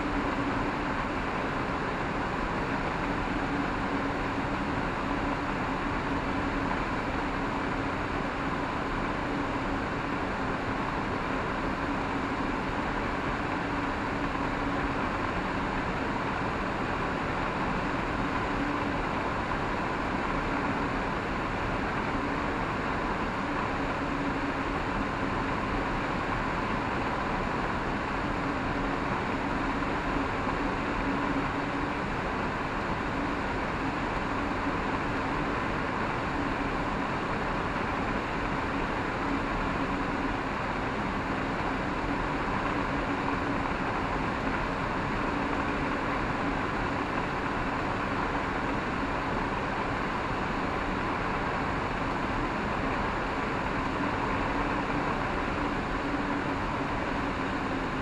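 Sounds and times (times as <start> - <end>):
rush of air over cockpit: 0.0 - 58.0.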